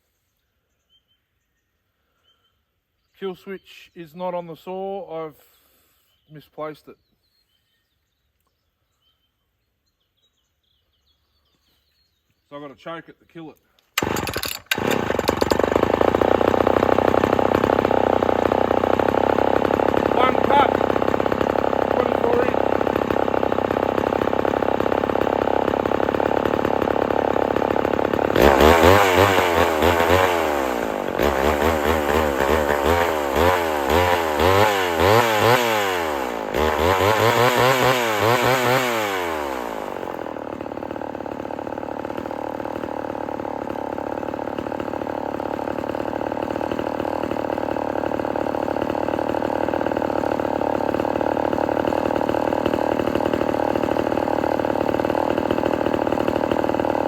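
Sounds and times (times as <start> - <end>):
chainsaw idling and cutting log: 4.2 - 6.7, 12.6 - 57.0.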